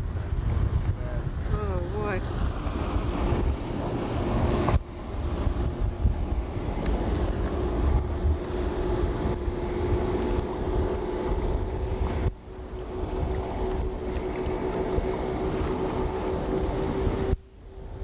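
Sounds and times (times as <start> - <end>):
motorboat engine running: 0.0 - 18.0
steady hum: 0.0 - 18.0
wind buffeting microphone: 0.0 - 18.0.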